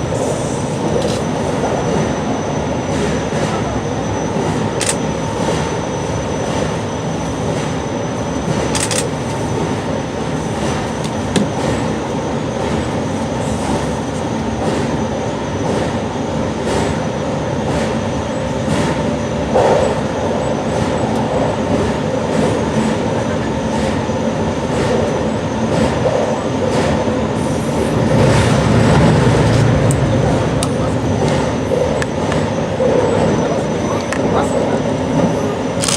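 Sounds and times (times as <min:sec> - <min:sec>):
electric train rolling rumble: 0:00.0 - 0:35.9.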